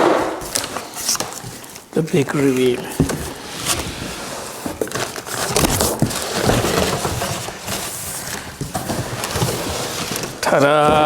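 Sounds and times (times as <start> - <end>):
packaging rustling and scraping: 0.0 - 11.0.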